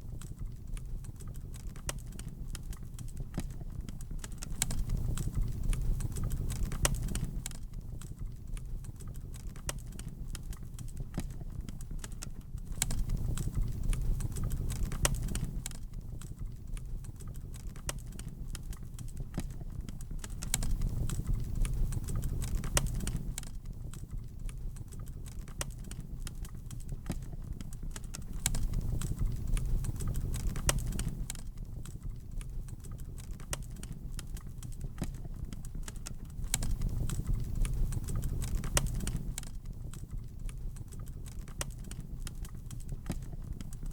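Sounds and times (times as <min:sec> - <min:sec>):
low rumble of flames: 0:00.0 - 0:43.9
wood fire crackling and popping: 0:00.0 - 0:43.9.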